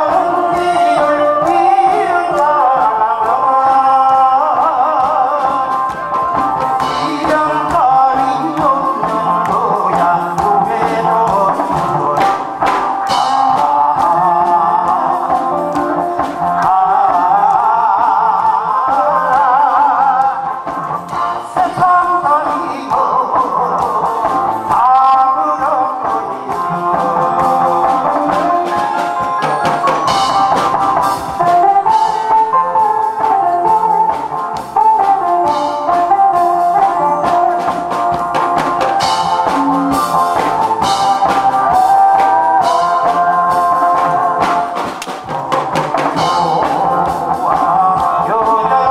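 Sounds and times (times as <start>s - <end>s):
man singing into microphone: 0.0s - 30.6s, 31.4s - 48.9s
karaoke backing track with brass: 0.0s - 48.9s.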